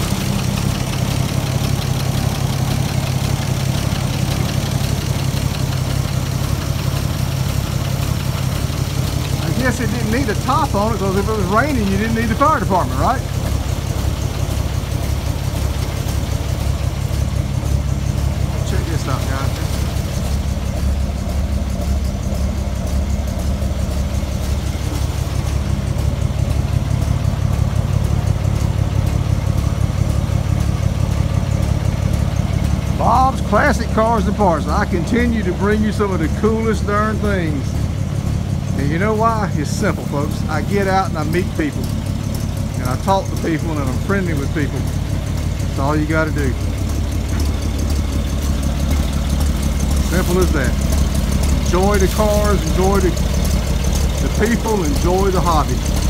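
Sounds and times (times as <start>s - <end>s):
fire truck engine idling: 0.0s - 56.0s.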